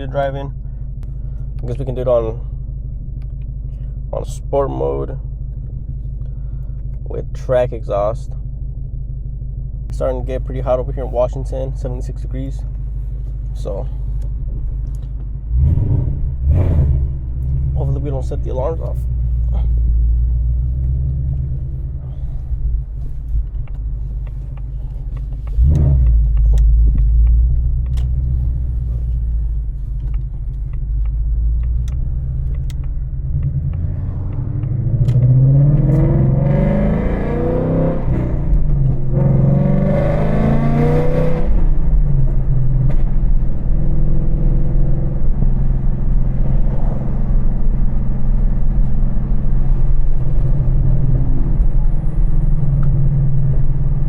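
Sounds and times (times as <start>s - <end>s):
car engine rumbling and accelerating: 0.0s - 54.0s.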